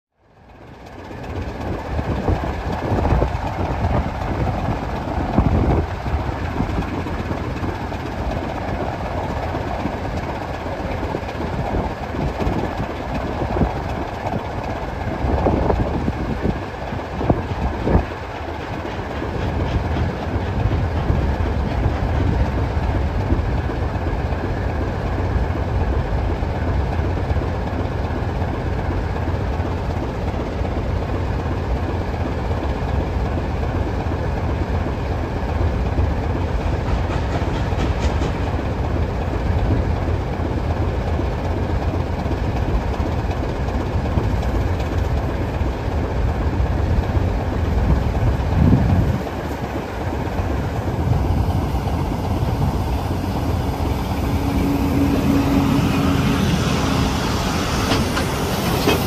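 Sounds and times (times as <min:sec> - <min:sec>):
steam locomotive low rumble: 0:00.1 - 0:59.0.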